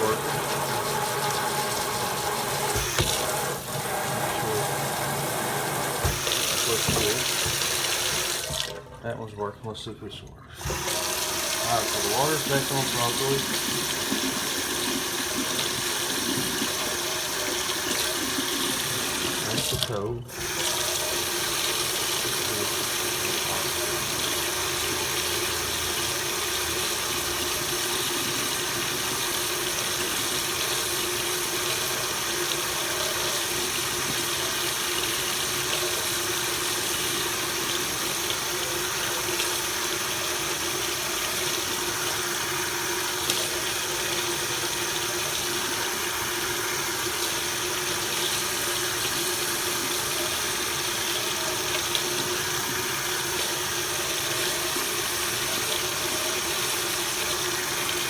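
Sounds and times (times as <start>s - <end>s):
faucet water running into sink: 0.0s - 9.0s, 10.4s - 58.0s.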